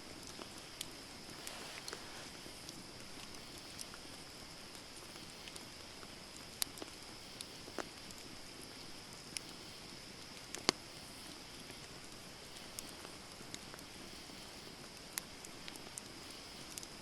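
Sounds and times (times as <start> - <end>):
campfire crackling and popping: 0.0 - 17.0
fire hissing softly: 0.0 - 17.0.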